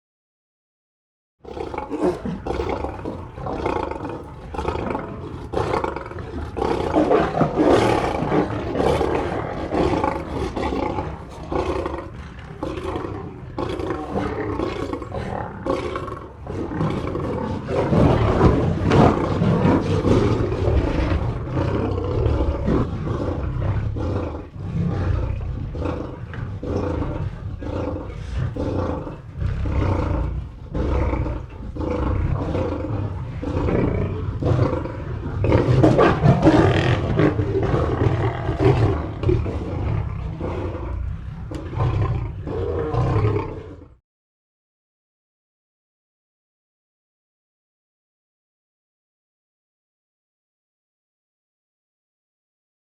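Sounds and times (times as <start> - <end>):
lions roaring and snarling: 1.4 - 44.0.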